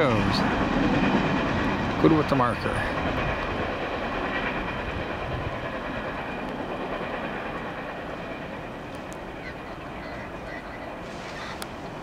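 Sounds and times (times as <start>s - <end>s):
freight train wheels rolling: 0.0s - 12.0s.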